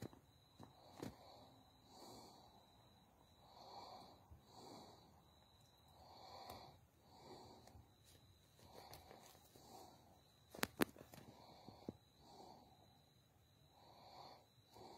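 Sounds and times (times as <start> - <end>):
faint steady high tone: 0.0 - 14.9
soft breathing: 0.6 - 14.9.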